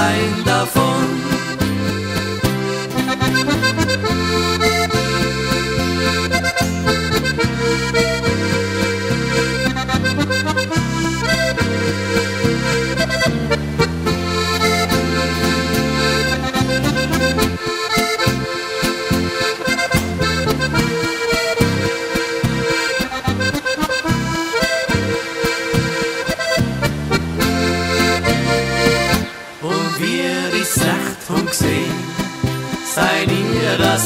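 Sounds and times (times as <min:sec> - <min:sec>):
oom-pah bass and chord beat: 0:00.0 - 0:29.5
accordion folk music: 0:00.0 - 0:34.0.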